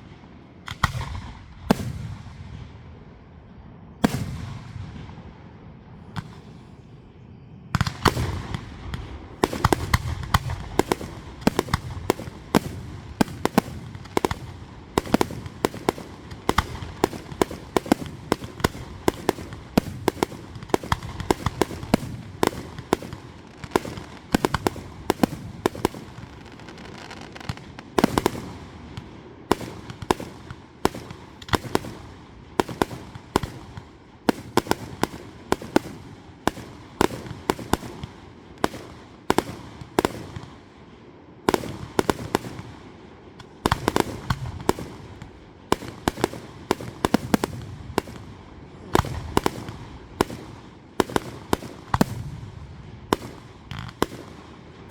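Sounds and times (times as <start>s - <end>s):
fireworks bangs: 4.0s - 7.0s, 7.7s - 40.7s, 41.5s - 54.9s.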